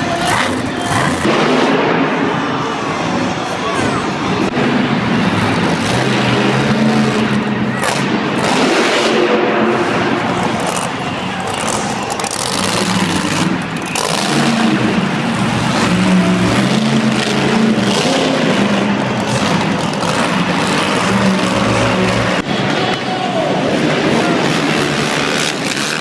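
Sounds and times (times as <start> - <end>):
truck engine revving: 0.0 - 3.0, 4.1 - 26.0.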